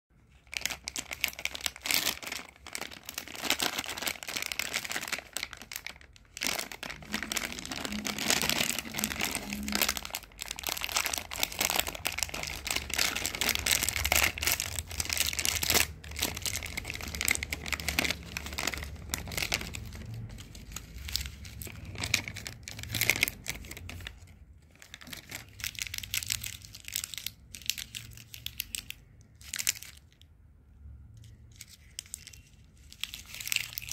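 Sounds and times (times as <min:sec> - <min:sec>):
plastic packet crinkling: 0:00.2 - 0:30.3, 0:31.2 - 0:33.9
wrapped chews rustling: 0:00.2 - 0:30.3, 0:31.2 - 0:33.9.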